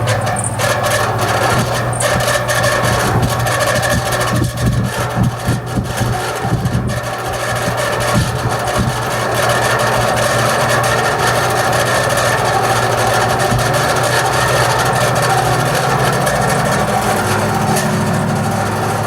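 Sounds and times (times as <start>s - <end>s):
bearing screeching: 0.0s - 19.0s
fan motor humming: 0.0s - 19.0s.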